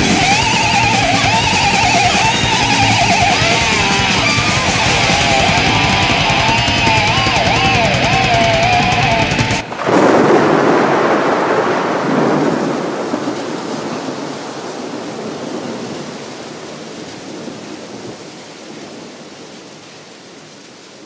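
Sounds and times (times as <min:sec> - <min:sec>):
thunder rumbling: 0:00.0 - 0:19.7
rain hissing: 0:00.0 - 0:21.0.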